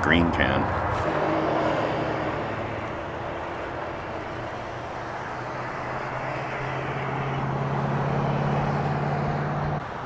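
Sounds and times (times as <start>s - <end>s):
heavy truck engine hum: 0.0s - 10.0s.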